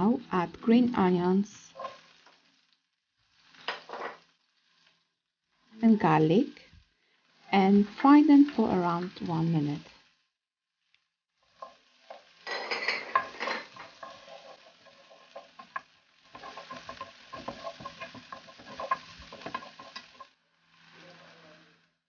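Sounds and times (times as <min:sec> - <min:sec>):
onions sizzling in oil: 0:00.0 - 0:22.0
wooden spoon scraping a pan: 0:01.6 - 0:10.2, 0:11.3 - 0:21.6.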